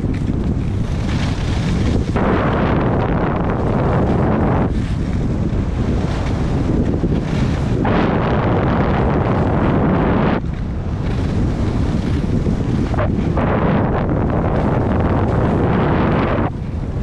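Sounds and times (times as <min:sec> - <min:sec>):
skis scraping over packed snow: 0:00.0 - 0:17.0
wind buffeting microphone: 0:00.0 - 0:17.0.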